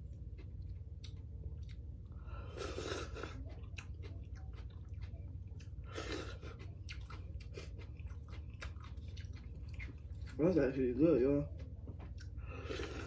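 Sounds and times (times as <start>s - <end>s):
chewing food: 0.0s - 13.0s
steady low hum: 0.0s - 13.0s.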